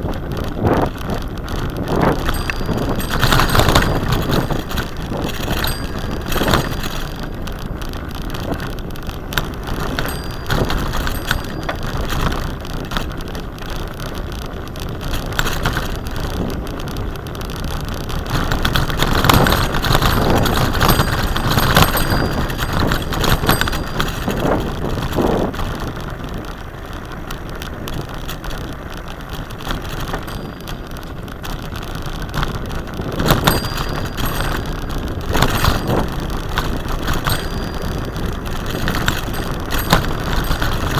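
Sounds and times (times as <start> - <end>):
bicycle tyres on rough ground: 0.0 - 40.9
small knocks and rattles: 0.1 - 13.9, 14.7 - 25.9, 27.6 - 40.9.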